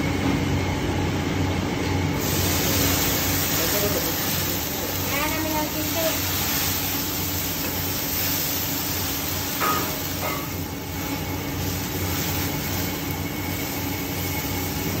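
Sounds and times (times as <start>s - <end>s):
gas burner running: 0.0s - 15.0s
food sizzling in wok: 2.2s - 15.0s.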